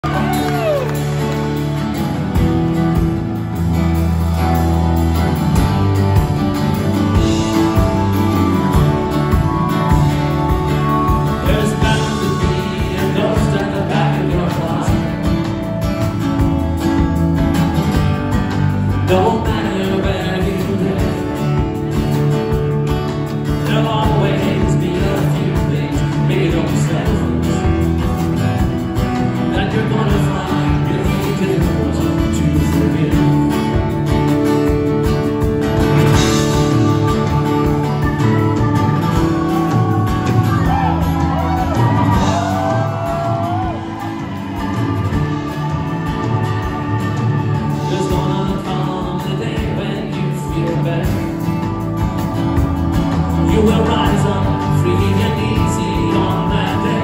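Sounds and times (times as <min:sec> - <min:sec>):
drums: 0:00.0 - 0:57.0
electric bass: 0:00.0 - 0:57.0
keyboard: 0:00.0 - 0:57.0
strummed acoustic guitar: 0:00.0 - 0:57.0.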